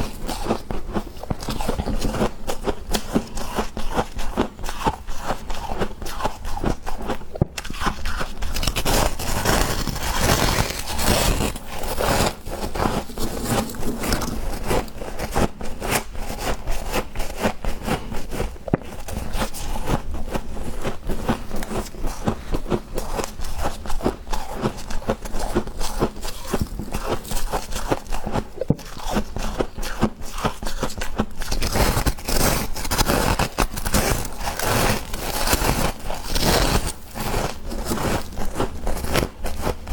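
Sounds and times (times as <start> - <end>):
freezer frost crunching: 0.0 - 39.9.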